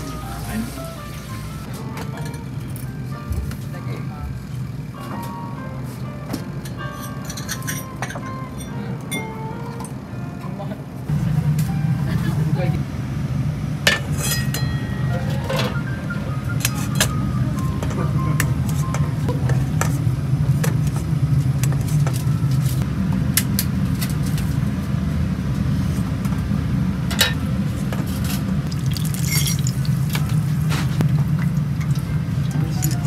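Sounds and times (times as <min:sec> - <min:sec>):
low kitchen hum: 0:00.0 - 0:33.0.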